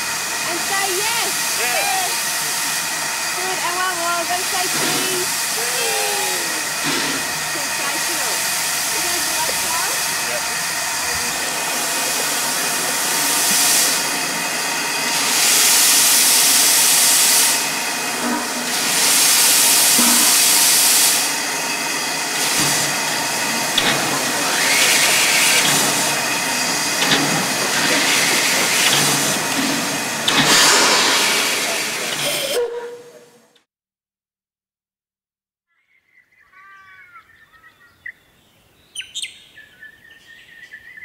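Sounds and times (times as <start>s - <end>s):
steam locomotive hissing: 0.0s - 33.6s.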